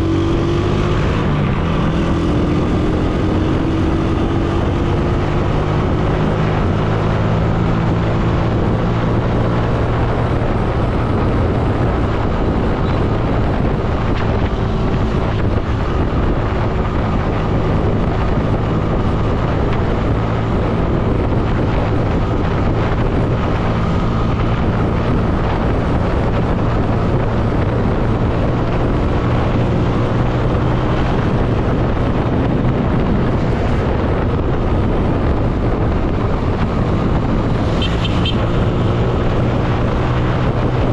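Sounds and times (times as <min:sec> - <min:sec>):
motorcycle engine cruising: 0:00.0 - 0:40.9
wind buffeting microphone: 0:00.0 - 0:40.9.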